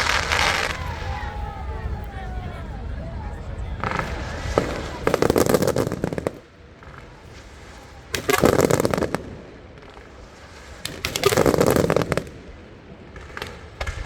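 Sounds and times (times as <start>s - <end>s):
fireworks crackling pops: 0.0s - 2.4s, 3.8s - 14.0s.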